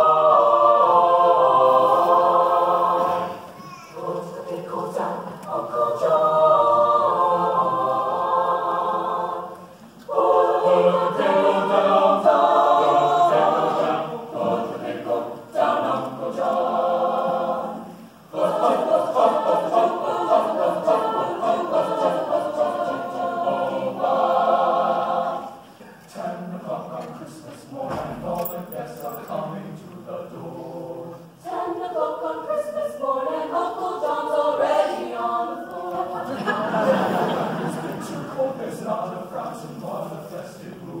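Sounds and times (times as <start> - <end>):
choir singing: 0.0 - 41.0.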